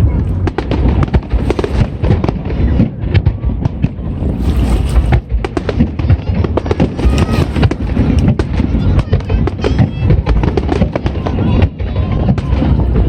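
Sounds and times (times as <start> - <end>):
constant low rumble: 0.0 - 13.0
fireworks bangs and crackles: 0.0 - 13.0.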